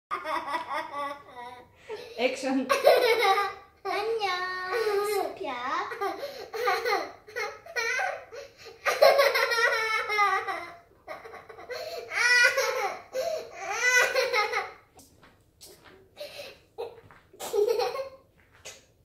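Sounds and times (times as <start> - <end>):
toddler laughing: 0.1 - 14.8, 16.2 - 18.2.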